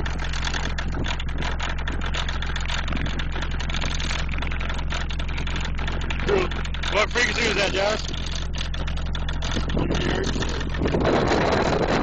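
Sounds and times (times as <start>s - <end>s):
low bass drone with buzz: 0.0s - 12.0s.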